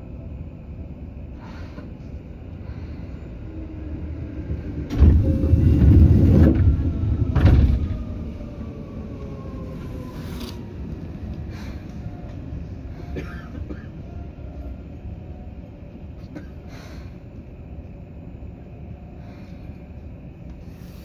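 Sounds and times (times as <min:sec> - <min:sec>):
train rumble and clatter: 0:00.0 - 0:21.0.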